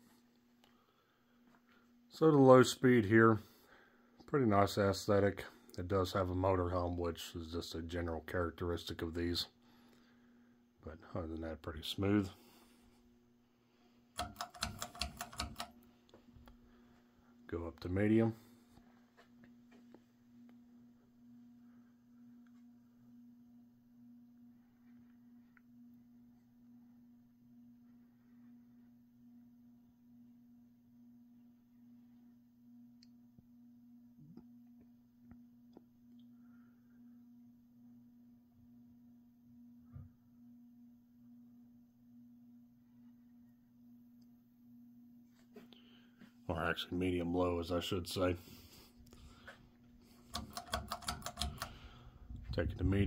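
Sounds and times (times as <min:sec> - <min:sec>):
ceiling fan motor hum: 0:00.0 - 0:53.0.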